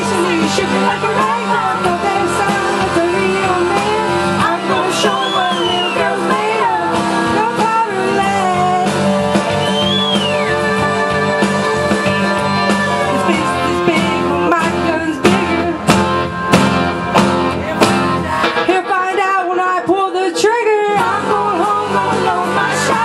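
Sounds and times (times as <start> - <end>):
woman singing into microphone: 0.0 - 9.2, 10.2 - 16.0, 17.5 - 23.0
karaoke backing track with guitar: 0.0 - 23.0.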